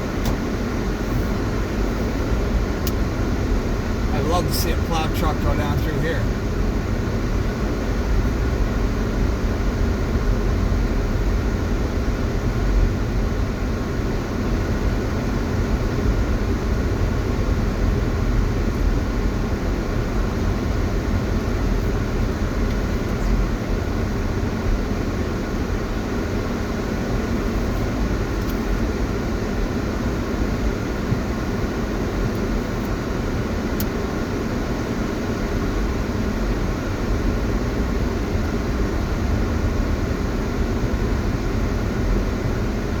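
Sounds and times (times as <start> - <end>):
snowplow truck rumbling: 0.0 - 43.0.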